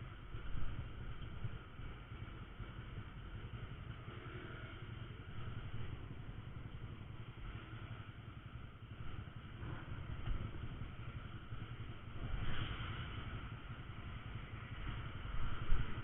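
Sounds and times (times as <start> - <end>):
motorcycle engine rumbling: 0.0 - 16.0
road and wind noise: 0.0 - 16.0.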